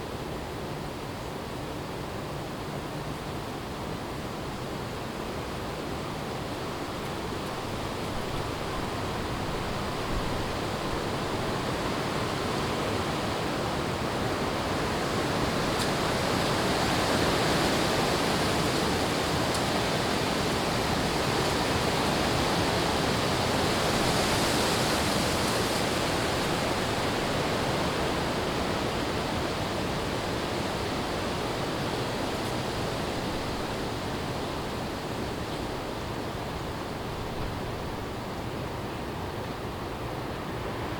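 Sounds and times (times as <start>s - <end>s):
wind gusting through trees: 0.0s - 40.9s.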